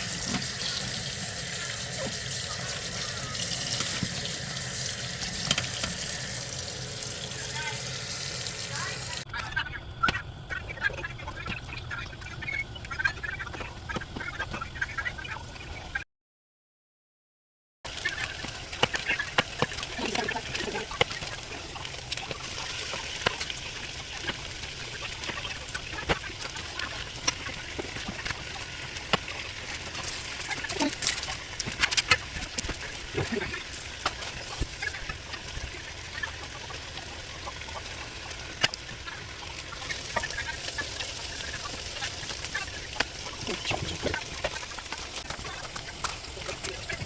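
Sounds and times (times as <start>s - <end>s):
food sizzling in oil: 0.0s - 9.3s, 17.9s - 47.0s
oil popping and crackling: 0.0s - 10.2s, 17.9s - 47.0s.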